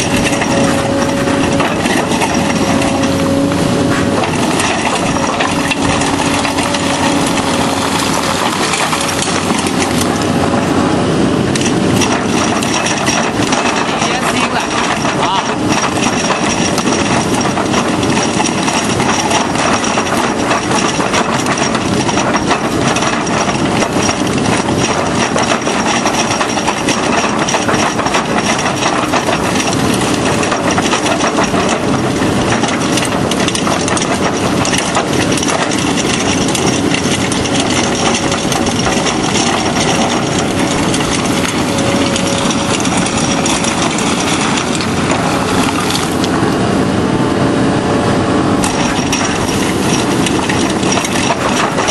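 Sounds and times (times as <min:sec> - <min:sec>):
drum cutter grinding rock: 0:00.0 - 0:46.6, 0:48.5 - 0:51.9
excavator engine running: 0:00.0 - 0:51.9.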